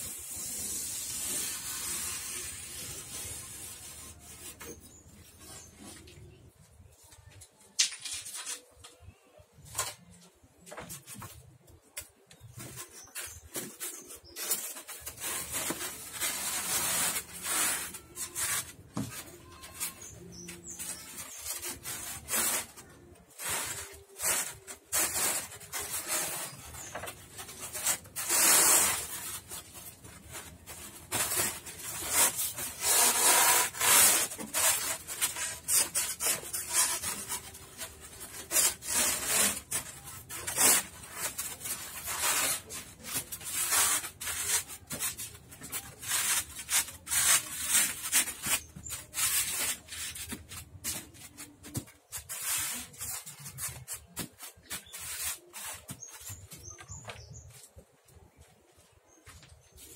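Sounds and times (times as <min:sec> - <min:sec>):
styrofoam scraping against wood: 0:00.0 - 0:06.6, 0:12.1 - 0:58.3.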